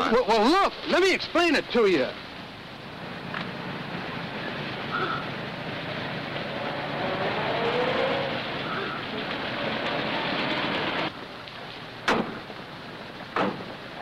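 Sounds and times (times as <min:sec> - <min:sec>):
car engine rumbling: 0:01.3 - 0:14.0.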